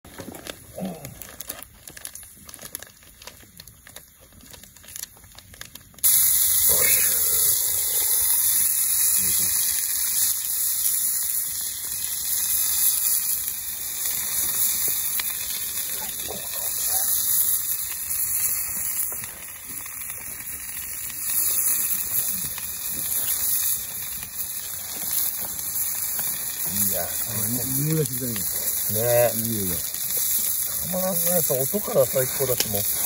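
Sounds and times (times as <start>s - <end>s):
steak sizzling on griddle: 0.1s - 33.0s.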